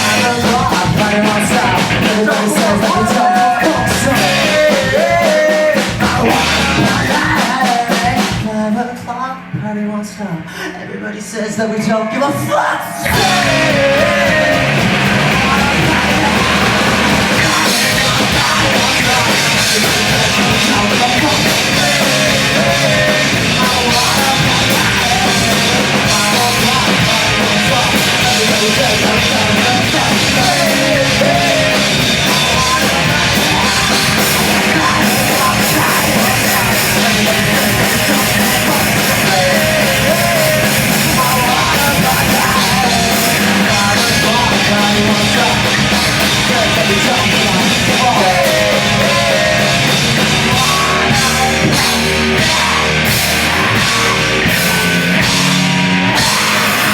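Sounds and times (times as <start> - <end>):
punk band playing loudly: 0.0 - 9.0, 12.8 - 56.9.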